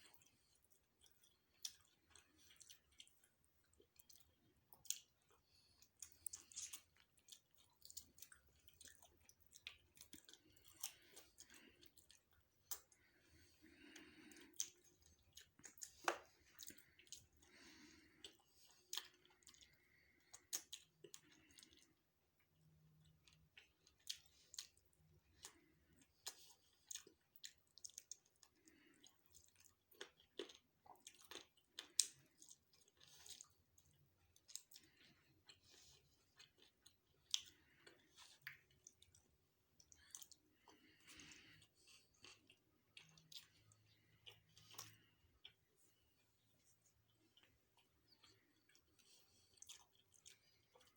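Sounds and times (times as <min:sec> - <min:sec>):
chewing and eating: 0:00.0 - 0:50.9.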